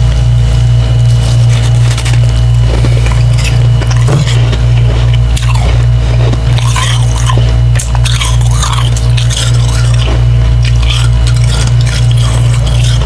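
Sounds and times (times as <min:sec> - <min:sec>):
chewing slushy ice: 0:00.0 - 0:13.0
loud low hum: 0:00.0 - 0:13.0.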